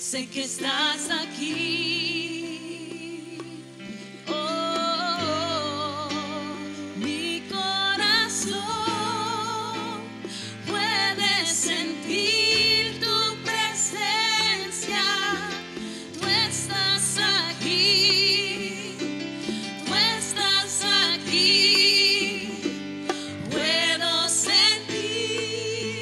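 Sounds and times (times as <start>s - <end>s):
person singing with vibrato: 0.0s - 26.0s.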